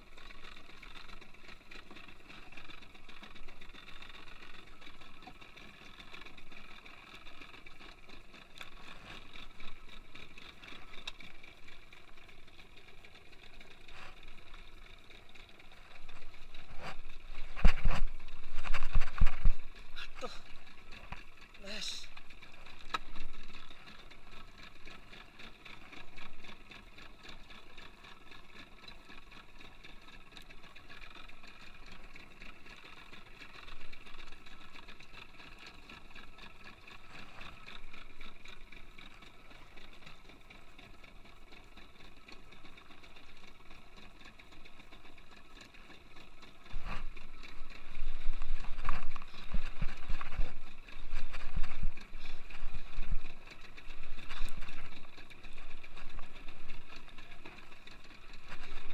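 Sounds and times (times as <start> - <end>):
boat engine running: 0.0 - 58.9.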